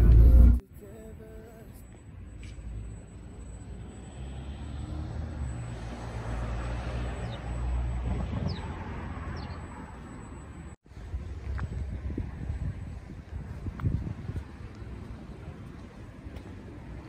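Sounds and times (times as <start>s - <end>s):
vehicle rumble and road noise: 0.0s - 17.0s.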